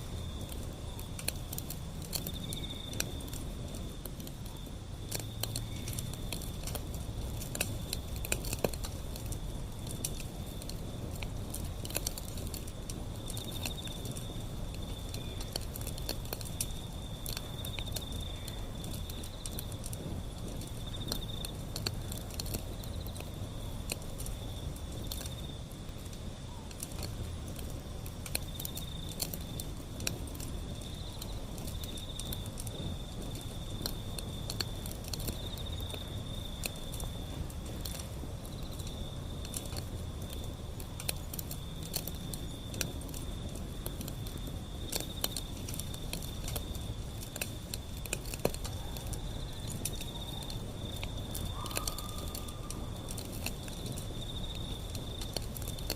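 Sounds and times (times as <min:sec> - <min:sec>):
low fire rumble: 0:00.0 - 0:55.9
wood fire crackling: 0:00.0 - 0:55.9.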